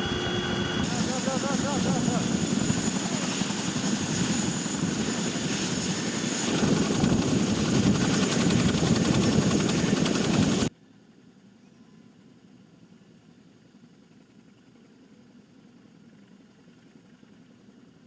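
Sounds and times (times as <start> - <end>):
helicopter rotor and turbine whine: 0.0 - 18.0.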